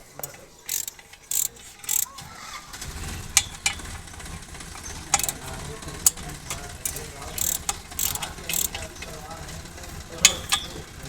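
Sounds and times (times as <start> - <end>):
ratchet rasping: 0.0 - 11.0
sharp metal clicks: 0.0 - 11.0.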